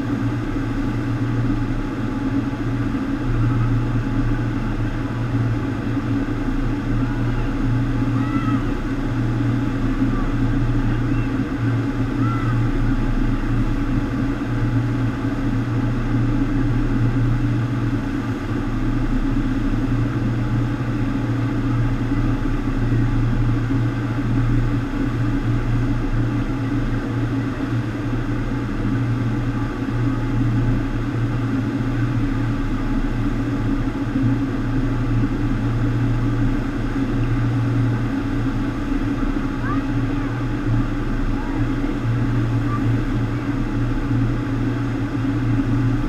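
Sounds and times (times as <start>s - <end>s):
low even hum: 0.0s - 46.0s.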